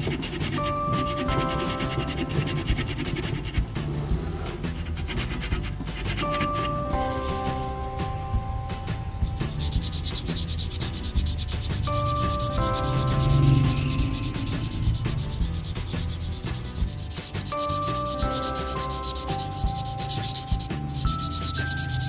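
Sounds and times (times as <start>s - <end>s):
abrasive sanding: 0.0s - 22.0s
light melodic background music: 0.0s - 22.0s.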